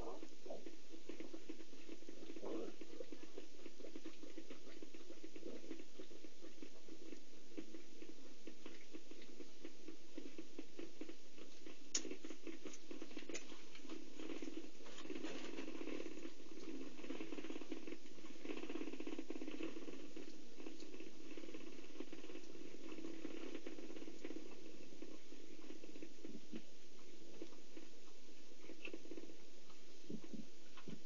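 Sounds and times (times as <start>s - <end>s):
cheetahs purring: 0.0s - 31.0s.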